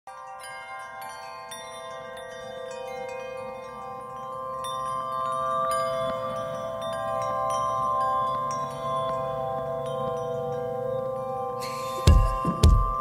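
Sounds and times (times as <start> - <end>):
chime tones ringing: 0.1 - 13.0.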